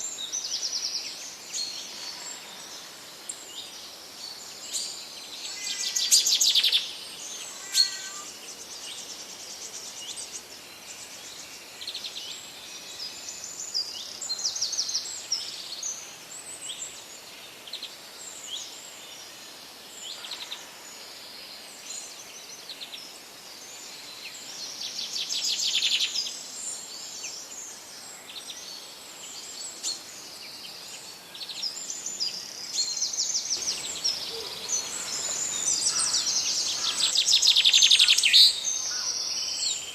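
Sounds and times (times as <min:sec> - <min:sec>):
songbirds chirping and trilling: 0:00.0 - 0:18.8, 0:19.8 - 0:39.9
faint background hiss: 0:00.0 - 0:39.9.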